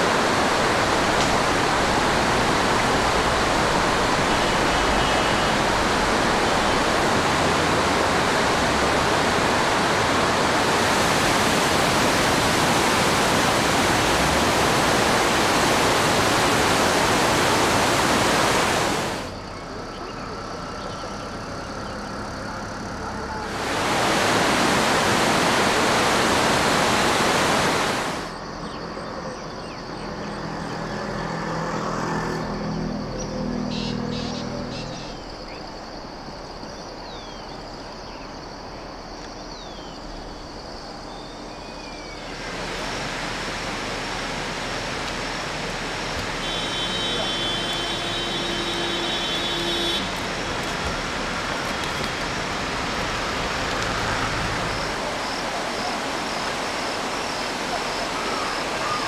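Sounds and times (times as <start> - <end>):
rushing river water: 0.0 - 28.7, 33.8 - 59.0.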